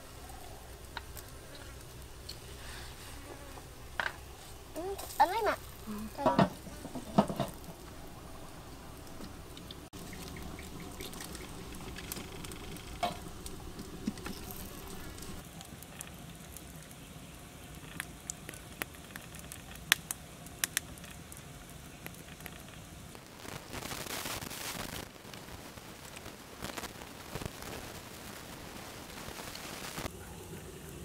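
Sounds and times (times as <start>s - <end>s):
wood fire crackling and popping: 0.0s - 3.0s, 3.6s - 30.1s
low steady hiss: 0.0s - 31.0s.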